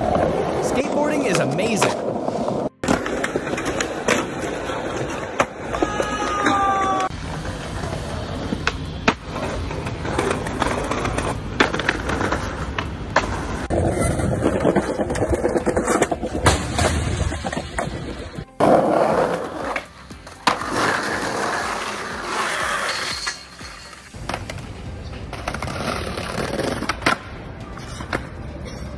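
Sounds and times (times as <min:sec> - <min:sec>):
skateboard wheels rolling on concrete: 0:00.0 - 0:28.9.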